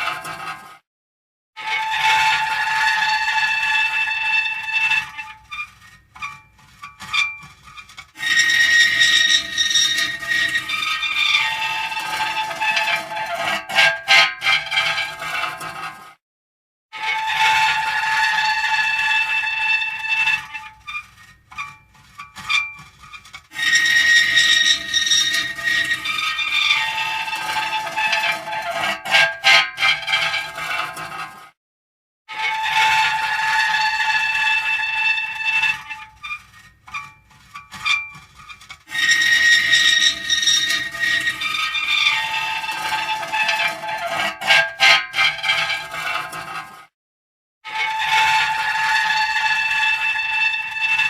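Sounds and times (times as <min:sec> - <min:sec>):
metal creaking and squealing: 0:00.0 - 0:00.7, 0:01.6 - 0:16.0, 0:17.0 - 0:31.4, 0:32.3 - 0:46.9, 0:47.7 - 0:51.0.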